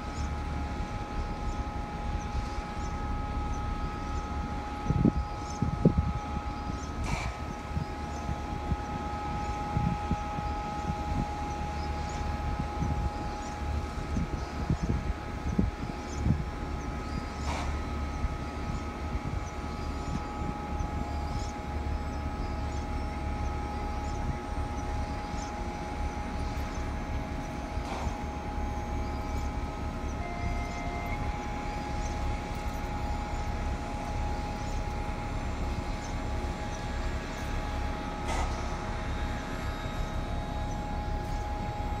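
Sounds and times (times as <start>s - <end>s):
low mechanical drone: 0.0s - 42.0s.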